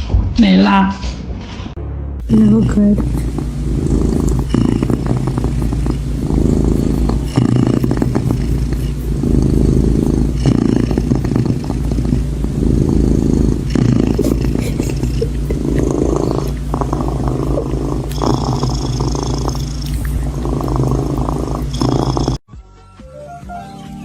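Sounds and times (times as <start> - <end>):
cat purring: 2.2 - 22.4.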